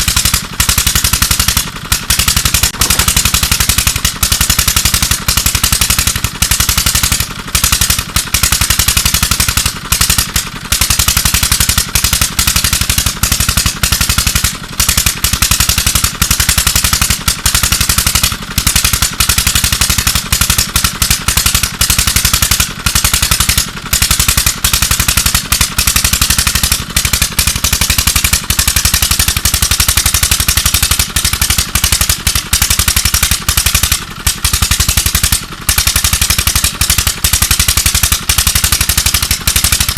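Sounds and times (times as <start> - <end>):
pump engine exhaust beat: 0.0 - 39.9.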